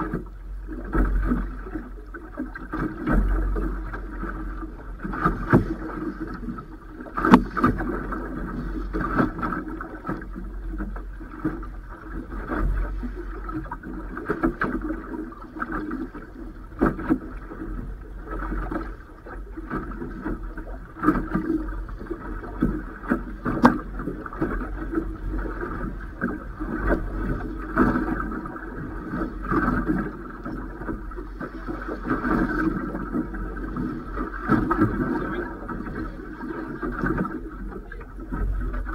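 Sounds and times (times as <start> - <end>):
waves slapping against boat hull: 0.0 - 38.9
wind rumble on microphone: 0.0 - 38.9.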